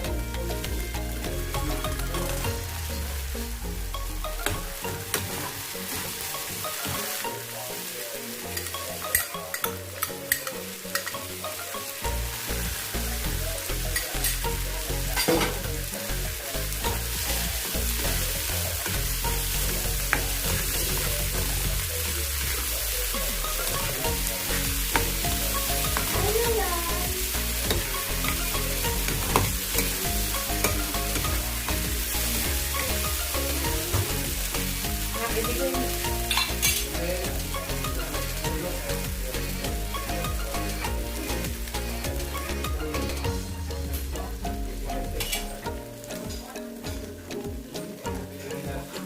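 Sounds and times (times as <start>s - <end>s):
food sizzling in a pan: 0.0s - 49.0s
soft background music: 0.0s - 49.0s.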